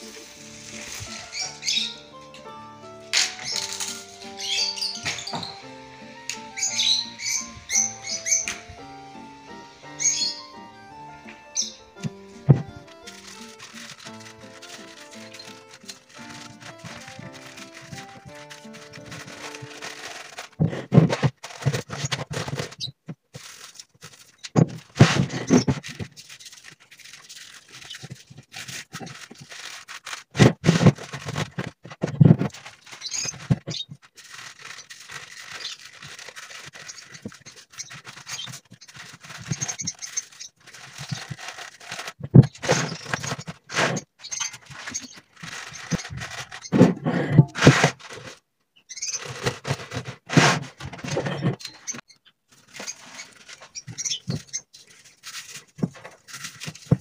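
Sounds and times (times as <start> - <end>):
cabbage leaves rustling and crunching: 0.0 - 2.1, 3.0 - 8.6, 11.5 - 46.9, 47.6 - 48.4, 49.0 - 57.0.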